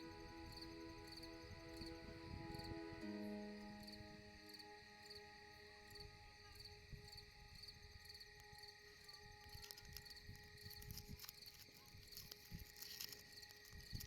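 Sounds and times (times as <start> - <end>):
crickets chirping: 0.0 - 14.0
thin insect drone: 0.0 - 14.0.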